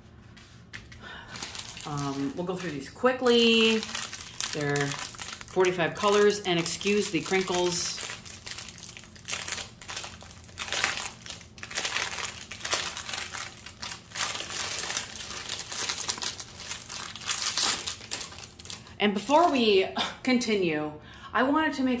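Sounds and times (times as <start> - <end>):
plastic wrapping crinkling: 1.1 - 19.6.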